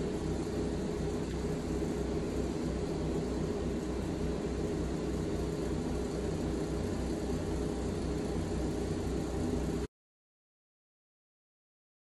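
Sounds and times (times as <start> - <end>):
pump machine humming and throbbing: 0.0 - 9.9.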